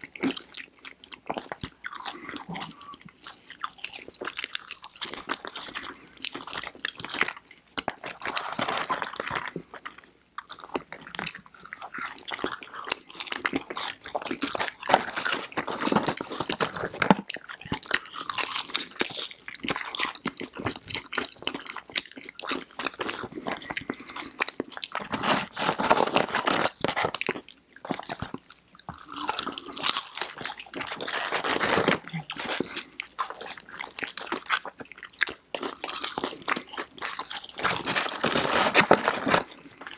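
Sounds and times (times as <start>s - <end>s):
people chewing crunchy food: 0.0s - 39.9s.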